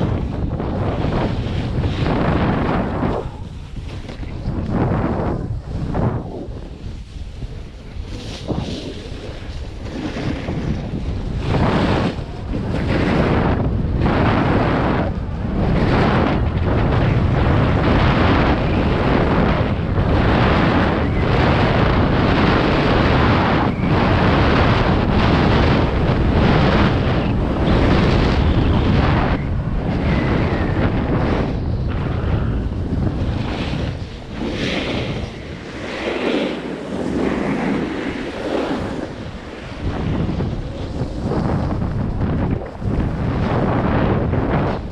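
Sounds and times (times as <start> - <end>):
snowboard scraping over snow: 0.0 - 44.9
wind buffeting microphone: 0.0 - 44.9.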